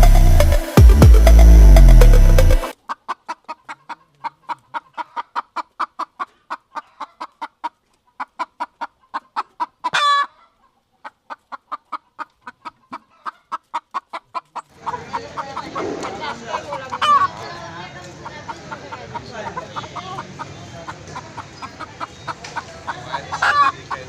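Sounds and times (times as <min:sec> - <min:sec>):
chicken clucking: 0:02.7 - 0:24.0
chicken squawk: 0:02.8 - 0:17.4, 0:18.2 - 0:24.0.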